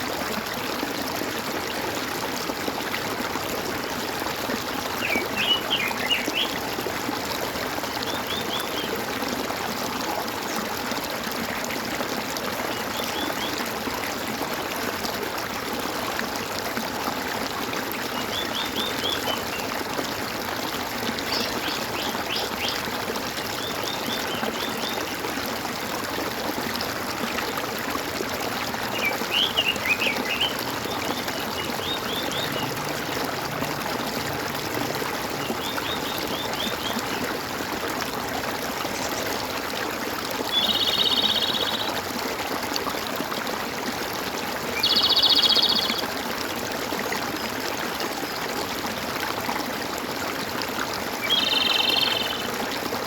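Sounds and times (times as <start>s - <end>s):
water gurgling and trickling: 0.0s - 53.0s.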